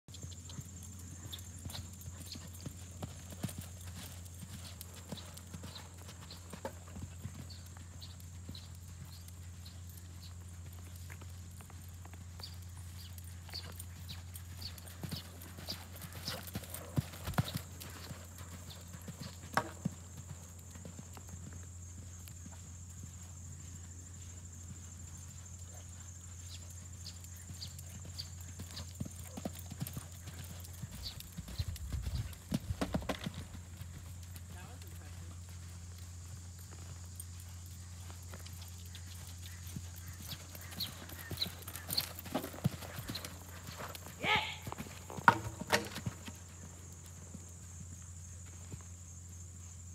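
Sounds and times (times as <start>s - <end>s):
horse hooves thudding on sand: 0.1s - 49.0s.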